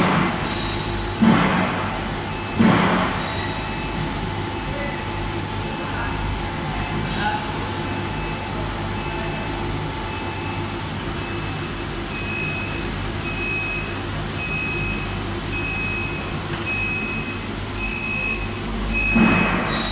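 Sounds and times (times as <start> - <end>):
machine and electrical hum: 0.0 - 19.9.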